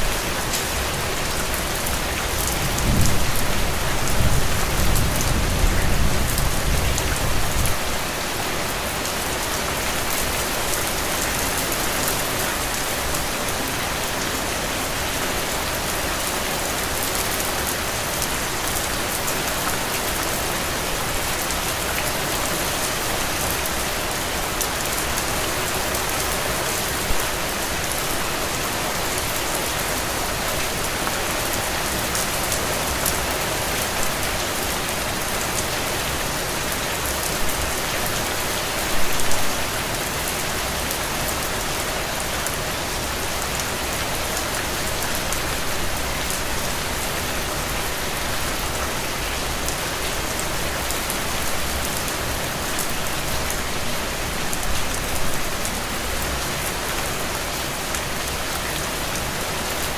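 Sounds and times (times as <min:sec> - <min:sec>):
heavy rain on ground: 0:00.0 - 0:59.9.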